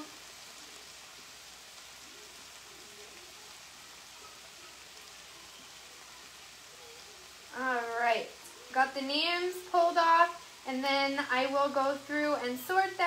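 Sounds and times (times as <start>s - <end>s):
food sizzling in skillet: 0.0s - 13.0s.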